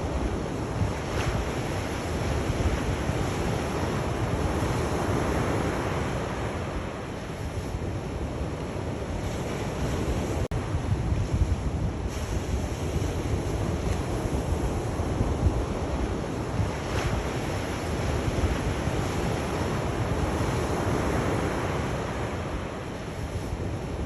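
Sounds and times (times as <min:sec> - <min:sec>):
sea waves washing onto shore: 0:00.0 - 0:24.0
wind rumble on microphone: 0:00.0 - 0:24.0.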